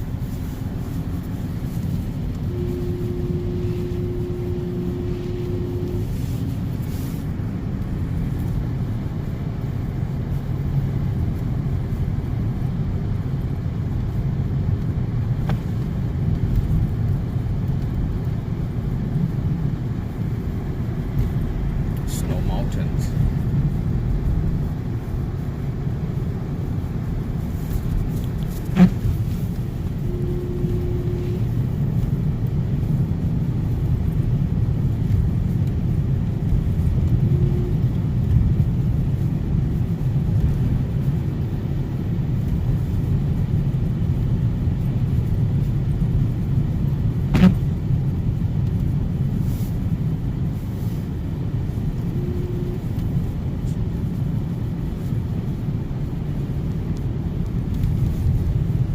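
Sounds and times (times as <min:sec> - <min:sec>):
car engine rumble: 0:00.0 - 0:58.9
tyres on snowy road: 0:00.0 - 0:58.9.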